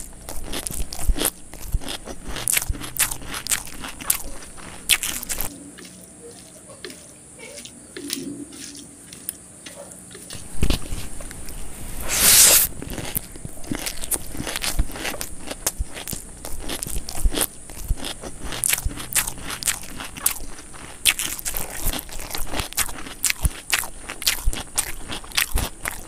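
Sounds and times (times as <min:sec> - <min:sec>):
wet chewing and smacking: 0:00.0 - 0:11.7, 0:12.7 - 0:26.0.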